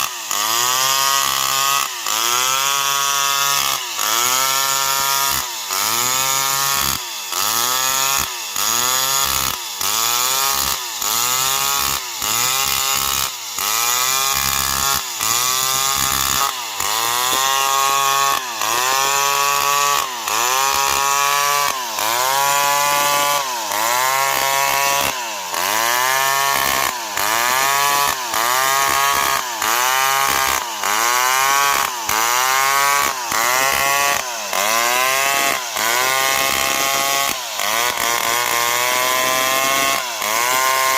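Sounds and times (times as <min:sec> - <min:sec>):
chainsaw cutting into tree: 0:00.0 - 0:40.9.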